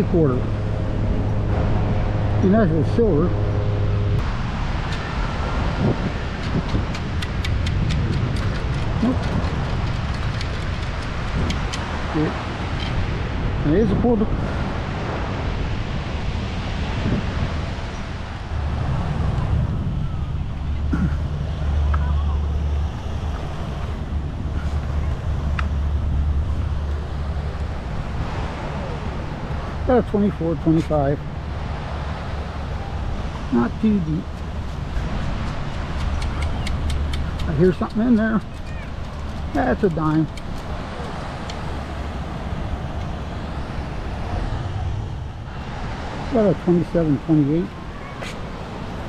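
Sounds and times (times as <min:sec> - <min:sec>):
outdoor noise: 0:00.0 - 0:49.0
wind noise on microphone: 0:03.1 - 0:29.9, 0:30.5 - 0:46.5.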